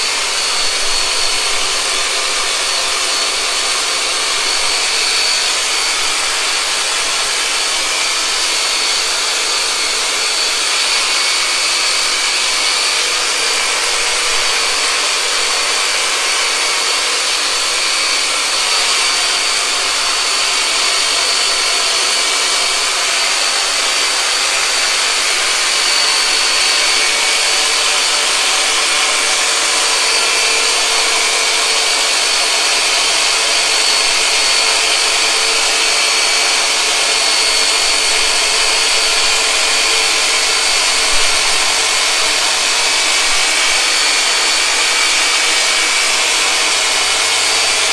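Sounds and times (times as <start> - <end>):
massage device motor whine: 0.0 - 47.9.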